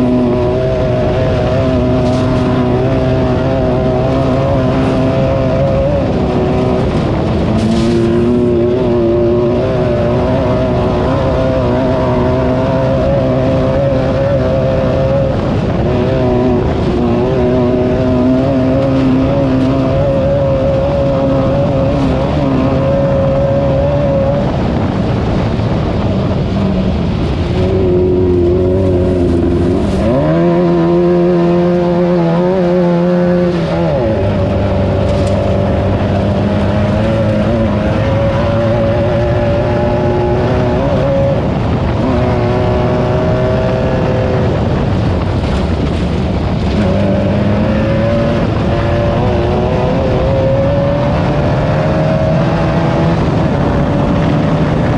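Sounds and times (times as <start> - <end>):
race car engine revving: 0.0 - 54.9
rush of noise: 0.0 - 54.9.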